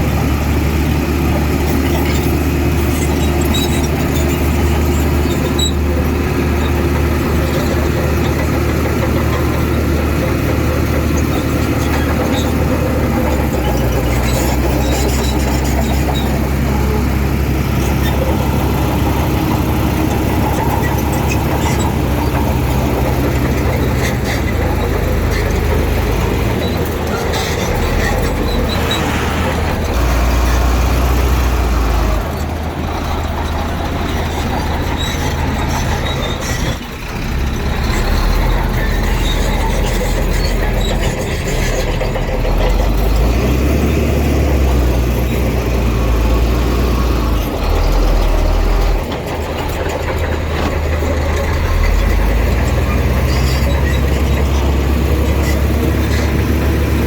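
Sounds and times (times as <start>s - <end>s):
heavy diesel engine working: 0.0s - 57.0s.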